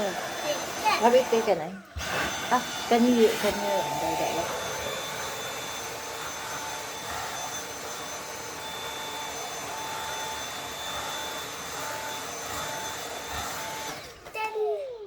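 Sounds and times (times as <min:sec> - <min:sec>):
vacuum cleaner motor whine: 0:00.0 - 0:14.4.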